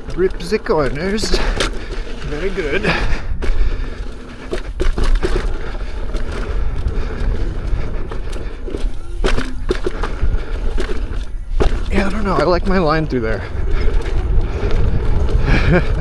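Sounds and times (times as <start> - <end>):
electric unicycle rumbling: 0.0 - 16.0
wheel knocking over rocks: 0.0 - 16.0.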